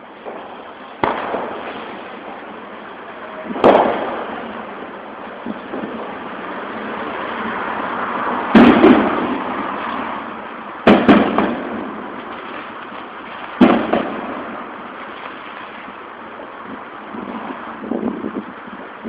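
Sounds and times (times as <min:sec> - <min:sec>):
fireworks bangs: 0:00.0 - 0:19.0
steady hiss: 0:00.0 - 0:19.0.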